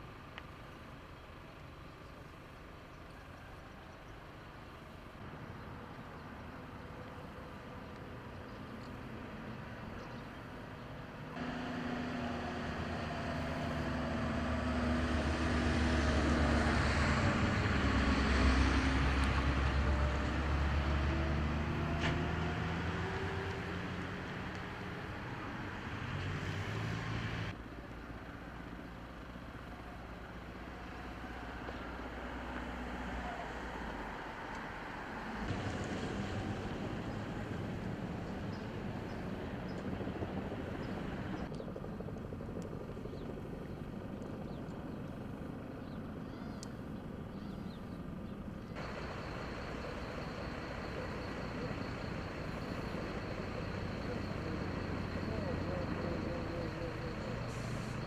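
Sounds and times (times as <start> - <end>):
aircraft engines passing overhead: 0.0 - 58.0.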